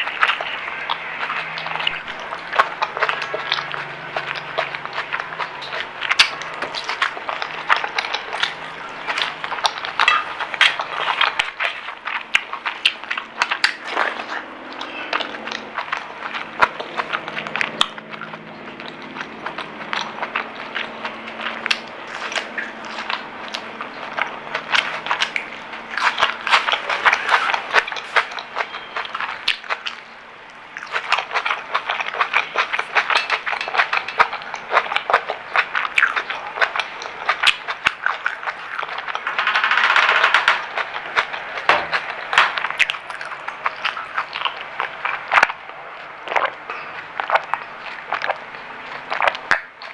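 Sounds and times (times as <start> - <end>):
crunching crisp fried food: 0.0 - 49.9.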